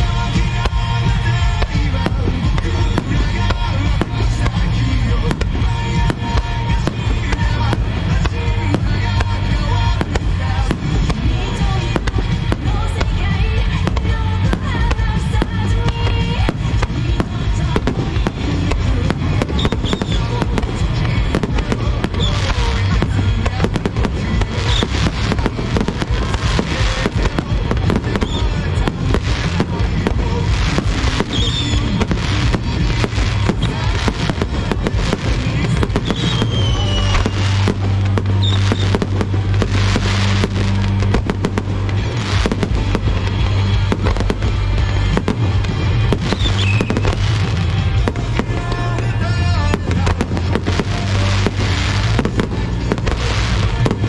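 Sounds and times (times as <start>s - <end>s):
fireworks bursting with loud bangs: 0.0s - 54.0s
music playing: 0.0s - 54.0s.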